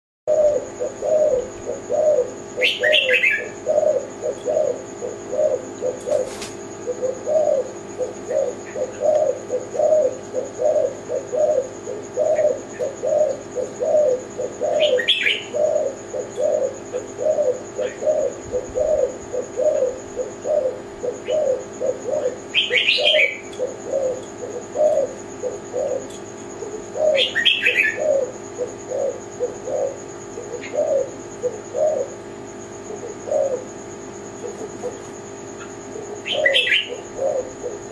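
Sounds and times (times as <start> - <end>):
small bird chirping: 0.3 - 32.2, 34.3 - 37.9
dove cooing: 0.3 - 37.9.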